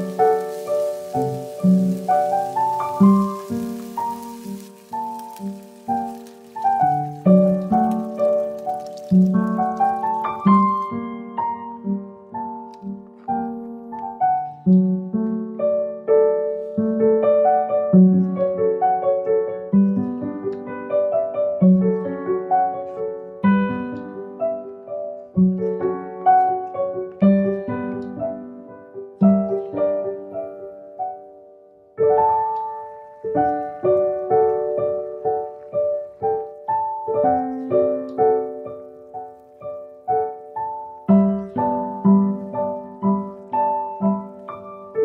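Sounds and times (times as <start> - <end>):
gentle piano melody: 0.0 - 45.0.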